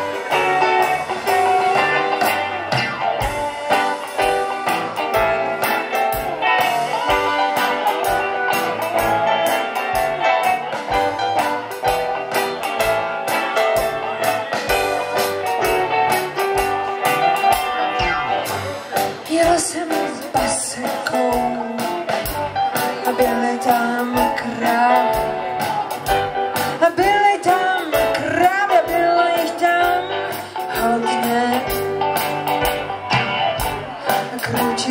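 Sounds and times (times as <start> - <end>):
steady drum beat: 0.0 - 28.1
electric guitar playing: 0.0 - 34.9.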